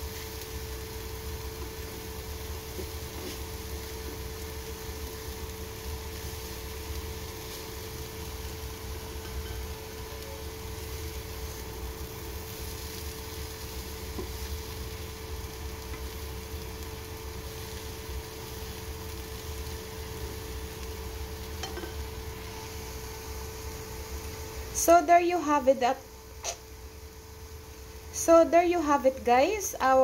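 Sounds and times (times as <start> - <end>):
steady hum: 0.0 - 30.0
stir-fry sizzling in a pan: 0.0 - 30.0.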